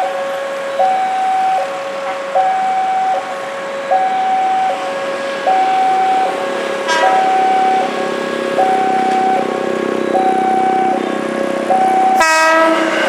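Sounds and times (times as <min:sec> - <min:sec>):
two-tone crossing alarm: 0:00.0 - 0:13.0.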